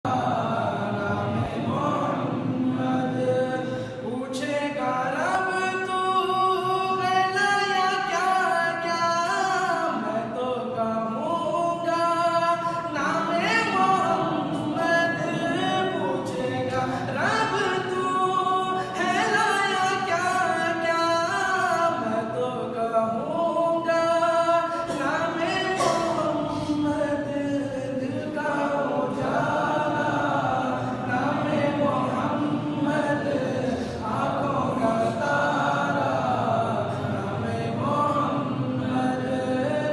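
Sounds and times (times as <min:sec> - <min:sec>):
person singing a cappella: 0:00.0 - 0:39.9.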